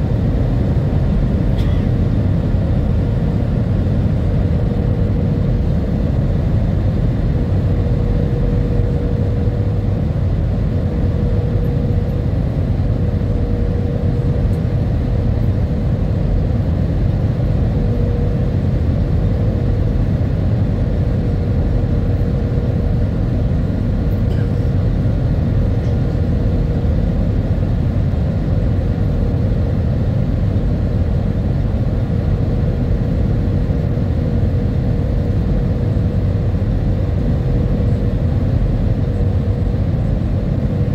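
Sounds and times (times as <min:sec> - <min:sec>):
jet engines and airflow rumble: 0:00.0 - 0:40.9
thin steady hum: 0:00.0 - 0:40.9.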